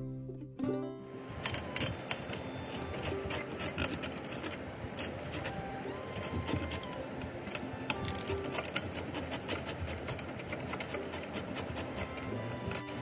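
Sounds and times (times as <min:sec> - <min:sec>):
soft background music: 0:00.0 - 0:13.0
mango grating on metal grater: 0:01.2 - 0:13.0.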